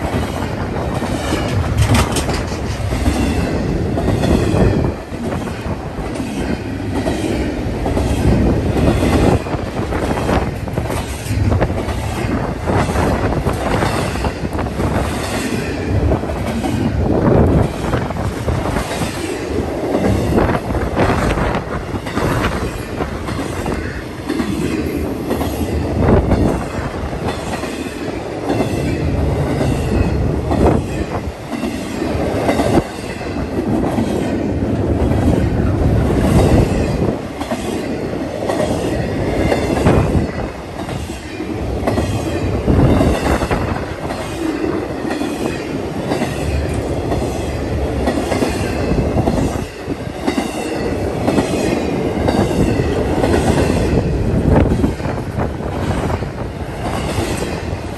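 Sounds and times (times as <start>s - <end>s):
train wheels clattering on rails: 0.0s - 57.9s.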